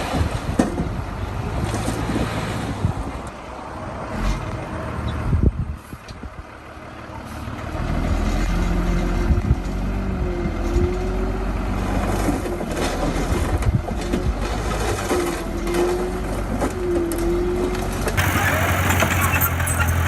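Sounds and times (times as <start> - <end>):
heavy diesel machinery engine: 0.0 - 20.0.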